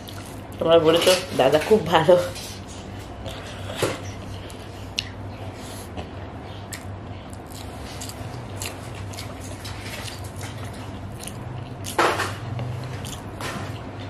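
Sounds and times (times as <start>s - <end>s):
person chewing with mouth clicks: 0.0s - 0.6s, 3.2s - 14.0s
steady low hum: 0.0s - 14.0s.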